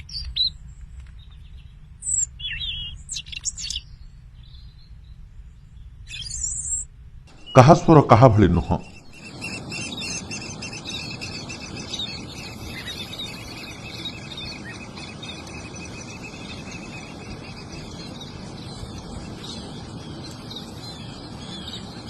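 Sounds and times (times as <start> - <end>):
birds chirping: 0.0 - 22.0
steady background noise: 0.0 - 22.0.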